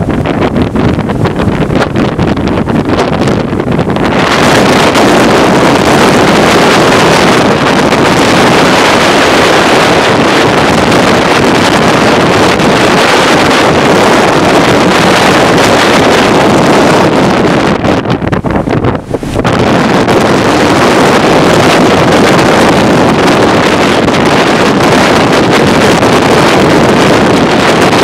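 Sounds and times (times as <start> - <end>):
sea washing along hull: 0.0 - 28.0
wind buffeting microphone: 0.0 - 28.0.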